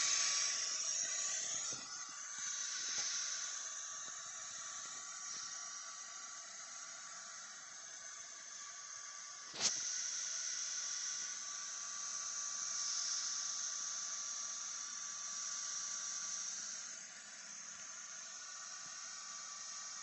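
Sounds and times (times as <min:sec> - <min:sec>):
air pump whirring hiss: 0:00.0 - 0:20.0.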